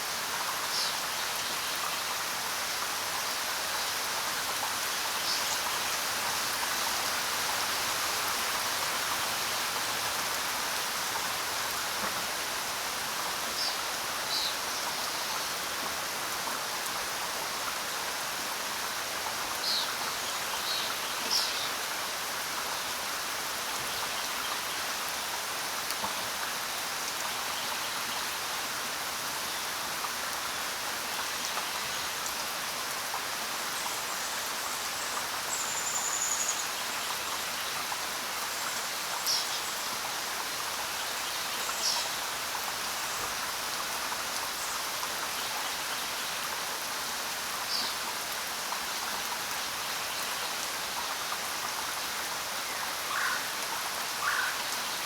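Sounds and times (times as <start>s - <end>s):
rain falling on ground: 0.0s - 55.0s.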